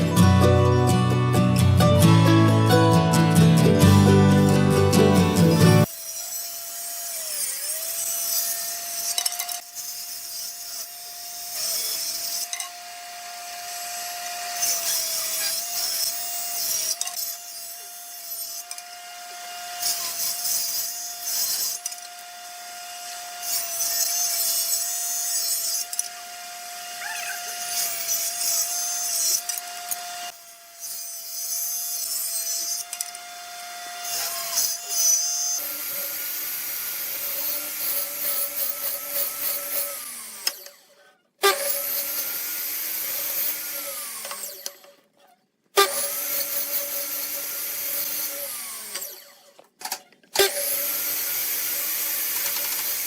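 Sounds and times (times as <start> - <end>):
power tool cutting wood: 0.0 - 53.0.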